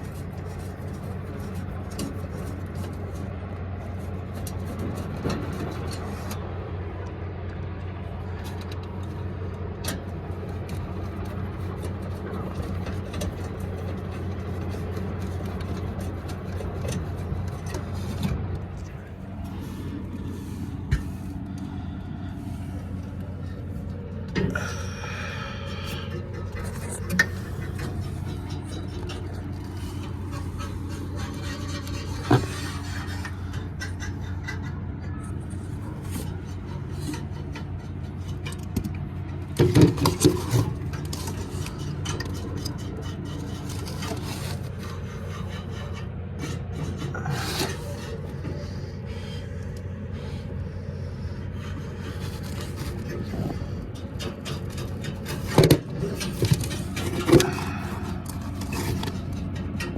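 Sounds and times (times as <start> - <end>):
metal scraping and rubbing: 0.0 - 6.4, 9.9 - 59.9
steady mechanical hum: 0.0 - 59.9.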